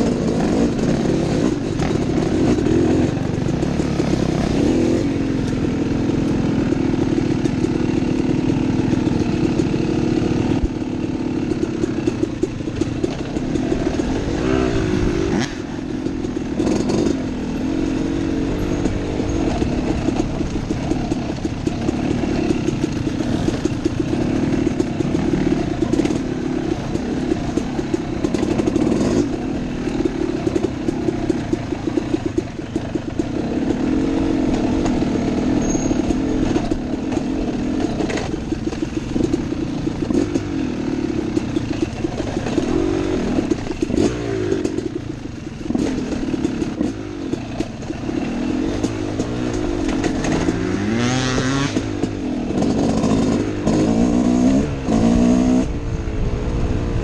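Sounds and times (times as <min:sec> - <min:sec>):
dirt bike engine revving: 0:00.0 - 0:55.7.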